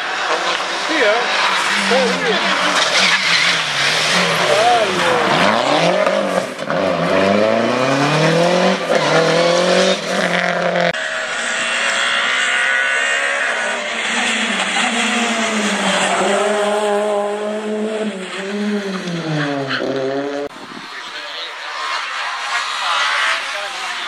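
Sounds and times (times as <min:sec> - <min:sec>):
rally car engines at full power: 0:00.0 - 0:24.0.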